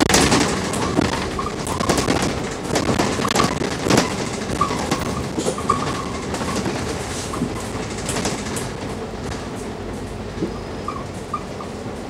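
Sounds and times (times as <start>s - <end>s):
bus engine and road rumble: 0.0s - 12.0s
interior fittings rattling: 0.0s - 12.0s.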